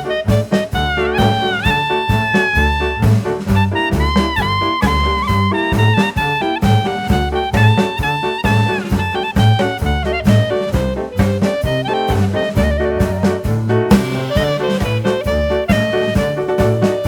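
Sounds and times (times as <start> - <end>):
upbeat jazz music with brass: 0.0 - 17.0.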